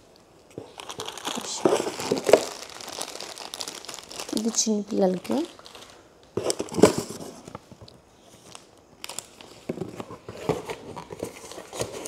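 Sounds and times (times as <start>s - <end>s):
packaging rustling: 0.4s - 12.0s.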